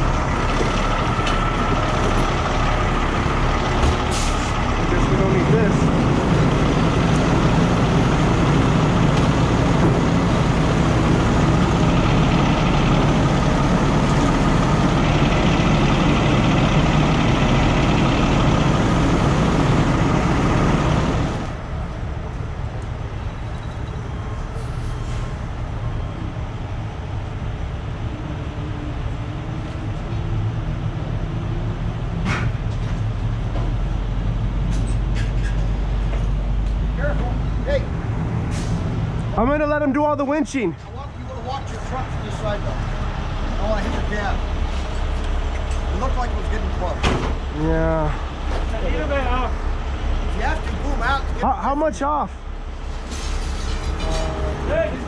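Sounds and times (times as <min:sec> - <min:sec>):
distant truck engines: 0:00.0 - 0:55.0
tow truck diesel engine running: 0:00.0 - 0:55.0.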